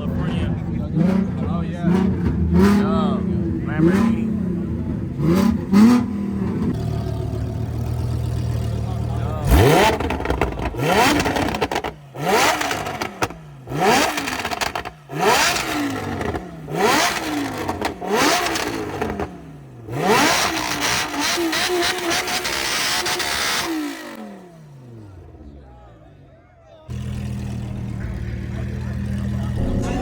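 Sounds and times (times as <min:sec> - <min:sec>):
car engine revving: 0:00.0 - 0:25.5, 0:26.9 - 0:30.0.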